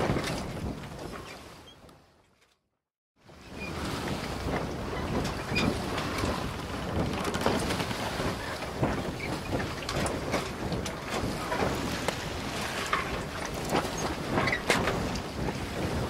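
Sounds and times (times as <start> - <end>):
wind on microphone: 0.0 - 2.2, 3.2 - 16.0.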